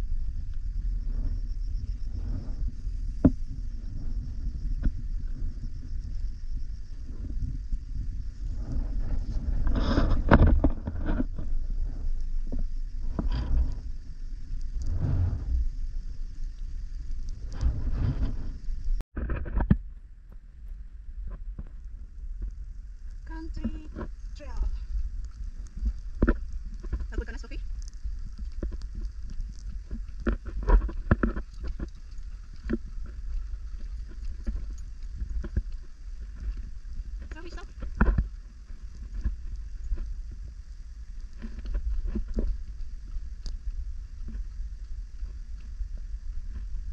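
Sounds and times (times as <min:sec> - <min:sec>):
wind rumbling on microphone: 0:00.0 - 0:46.9.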